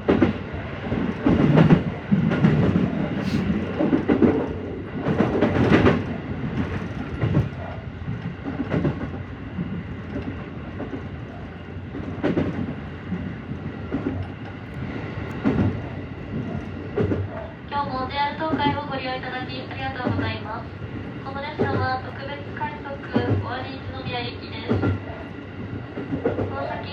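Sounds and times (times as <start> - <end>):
clacks over rail joints: 0.0 - 26.9
train wheels rumbling on rail: 0.0 - 26.9.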